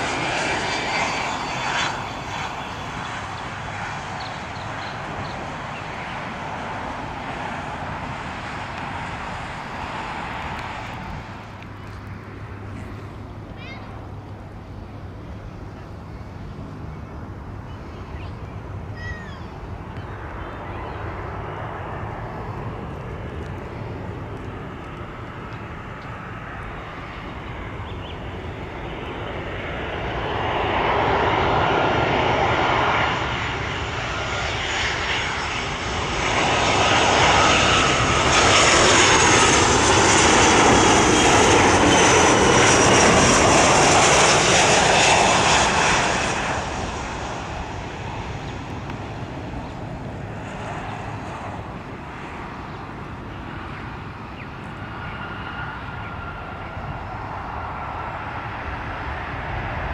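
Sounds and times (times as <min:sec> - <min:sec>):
high engine whine: 0:00.0 - 0:59.9
jet airliner engines: 0:00.0 - 0:59.9.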